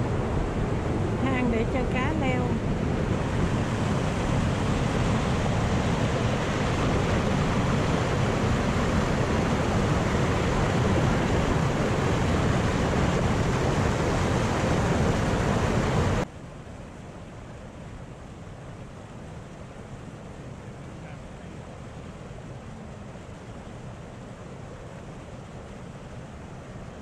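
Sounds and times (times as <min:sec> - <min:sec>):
water rushing and churning: 0:00.0 - 0:27.0.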